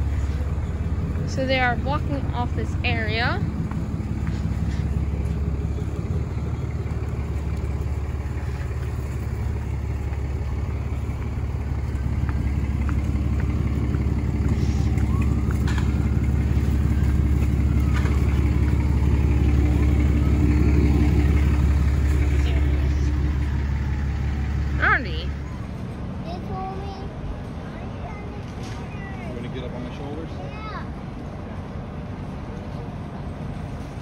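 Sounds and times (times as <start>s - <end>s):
large vehicle engine idling: 0.0s - 34.0s.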